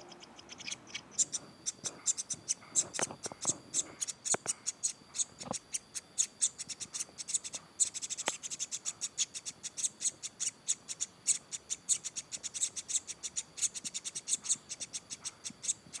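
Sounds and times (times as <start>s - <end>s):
bird chicks cheeping: 0.0s - 16.0s.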